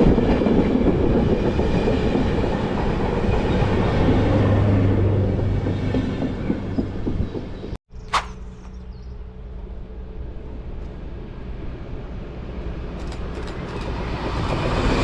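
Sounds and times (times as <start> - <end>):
train wheels rumbling and clattering: 0.0 - 7.8, 10.2 - 15.0.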